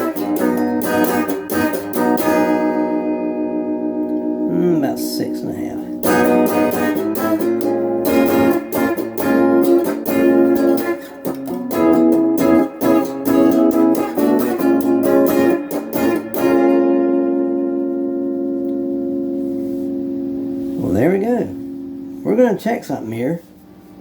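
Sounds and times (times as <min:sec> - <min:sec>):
overdriven electric guitar: 0:00.0 - 0:22.5.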